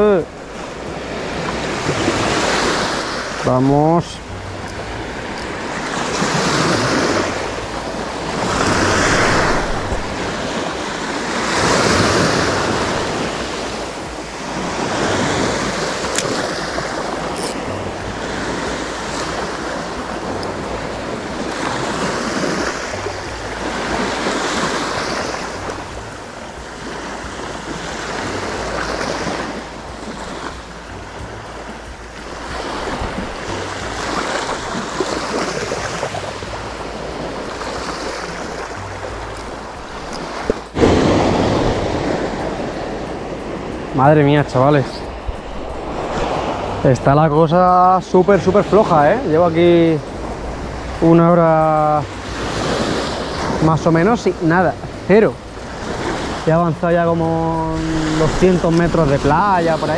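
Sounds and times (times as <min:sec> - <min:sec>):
sea waves breaking on beach: 0:00.0 - 0:59.9
wind rumbling on microphone: 0:00.0 - 0:59.9.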